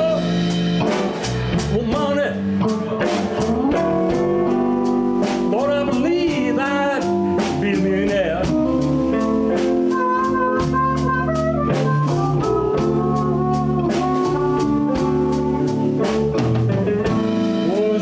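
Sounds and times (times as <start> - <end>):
lead with bending notes: 0.0 - 18.0
live blues band playing: 0.0 - 18.0
steady drum beat: 0.0 - 18.0.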